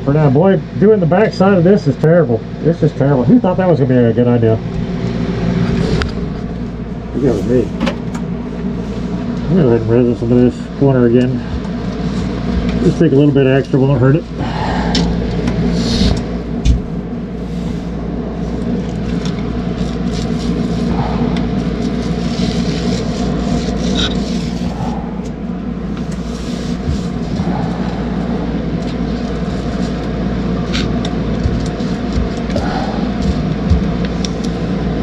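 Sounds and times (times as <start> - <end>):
steady machine hum: 0.0 - 35.0.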